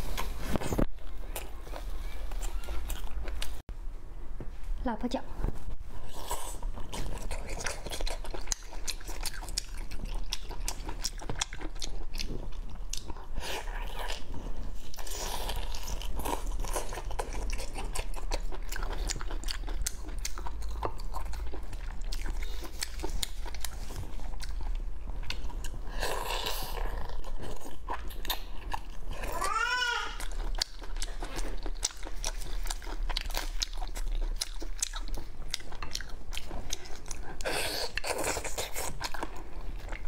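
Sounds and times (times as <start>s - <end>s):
wet chewing and smacking: 0.0s - 3.7s, 6.0s - 29.3s, 30.2s - 40.0s.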